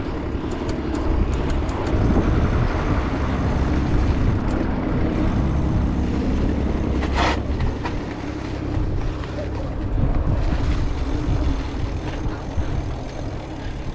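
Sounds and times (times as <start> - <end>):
bike rattling: 0.0 - 13.9
bike tyres rumbling over stone: 0.0 - 13.9
wind on microphone: 0.0 - 13.9.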